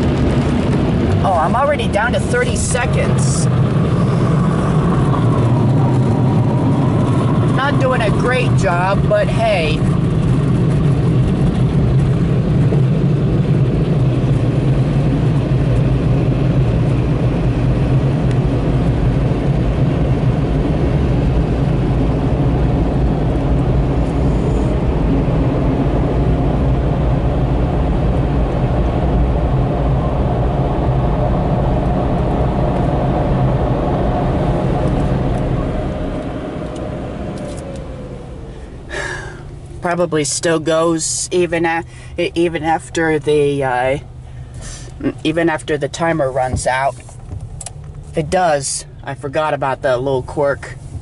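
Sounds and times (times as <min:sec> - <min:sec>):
car wash blowers rushing air: 0:00.0 - 0:51.0.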